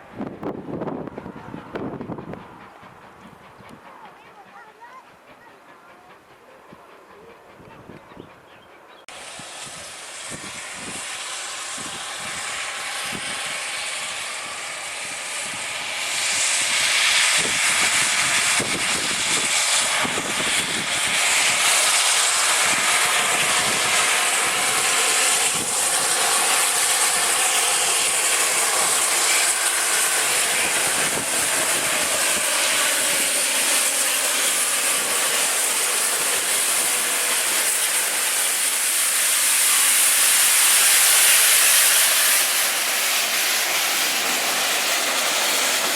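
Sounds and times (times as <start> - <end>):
steam locomotive hissing: 0.1 - 45.9.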